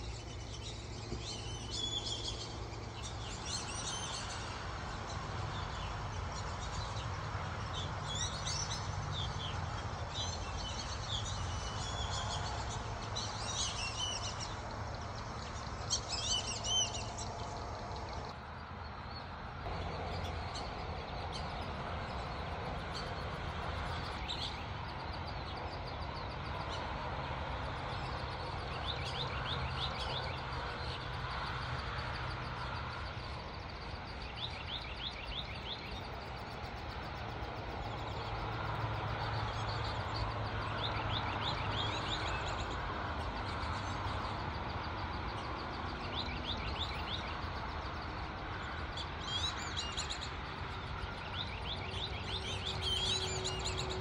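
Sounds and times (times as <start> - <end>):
bird chirping trills: 0.0 - 54.0.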